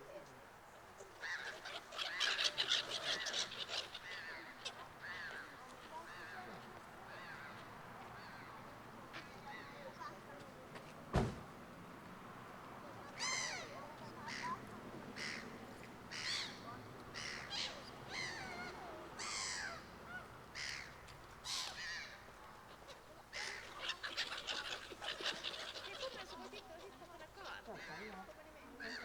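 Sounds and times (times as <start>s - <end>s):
gulls calling: 0.9s - 10.4s, 13.0s - 29.0s.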